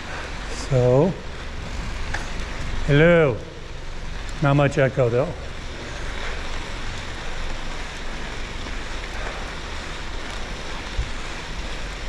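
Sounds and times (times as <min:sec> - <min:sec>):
bicycle tyres on gravel: 0:00.0 - 0:12.0.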